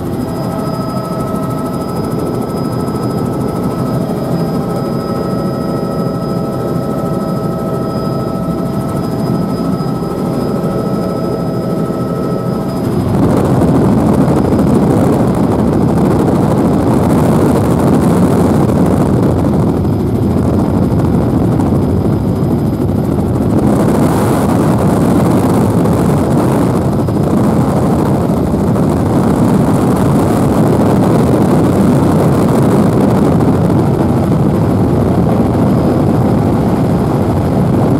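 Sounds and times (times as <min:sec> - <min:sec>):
faint whining tones: 0:00.0 - 0:37.9
helicopter rotor and engine rumble: 0:00.0 - 0:37.9.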